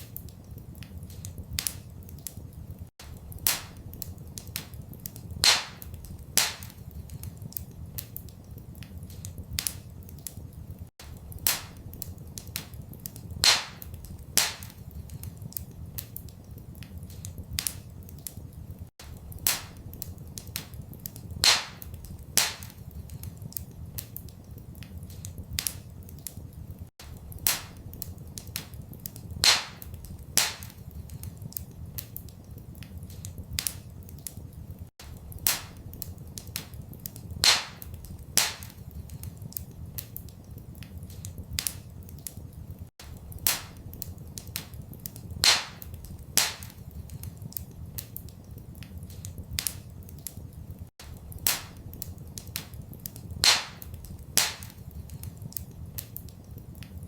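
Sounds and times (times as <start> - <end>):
sharp pops of fire: 0.0 - 57.0
wood fire crackling: 0.0 - 57.0.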